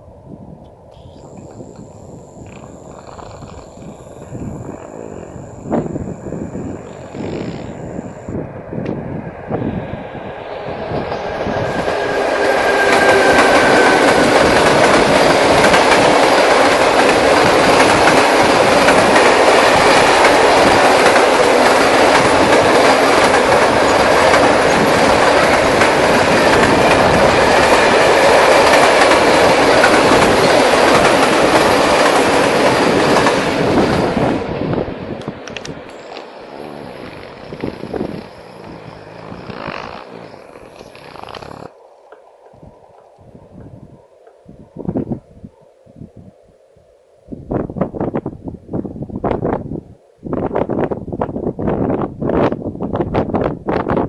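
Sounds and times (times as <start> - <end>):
freight train passing: 0.0 - 44.0.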